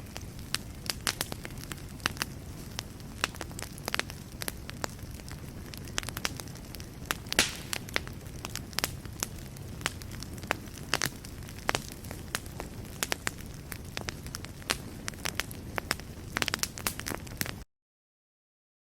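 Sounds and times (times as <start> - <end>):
low rumble of fire: 0.0 - 17.6
fire crackles and pops: 0.0 - 17.7.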